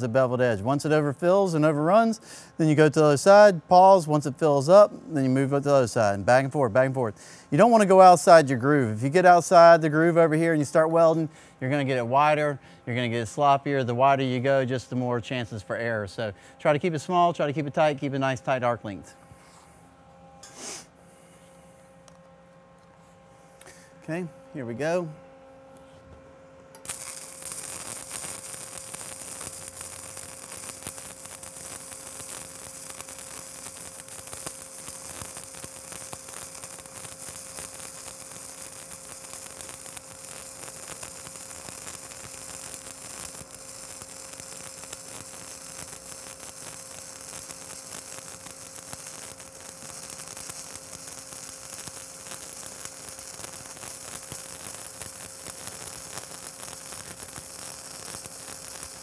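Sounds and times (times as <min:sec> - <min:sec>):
welding arc sizzling and crackling: 0:00.0 - 0:19.8, 0:26.8 - 0:59.0.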